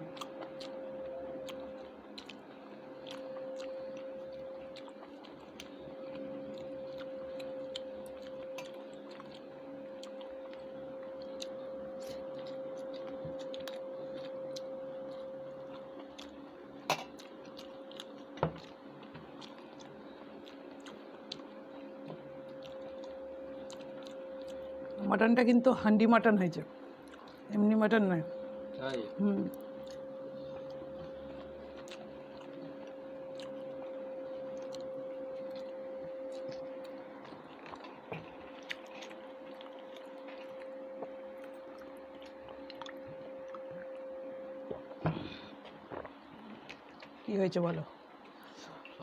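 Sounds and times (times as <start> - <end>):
chewing: 0.0 - 25.0, 27.0 - 27.4, 29.5 - 47.2
steady hum: 0.0 - 49.0.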